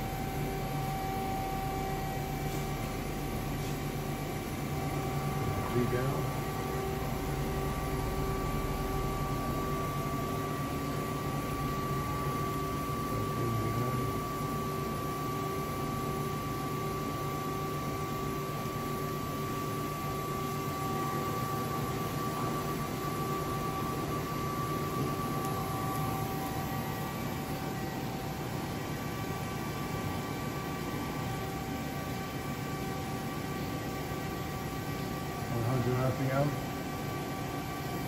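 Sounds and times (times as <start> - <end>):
lathe machine humming and whining: 0.0 - 38.0.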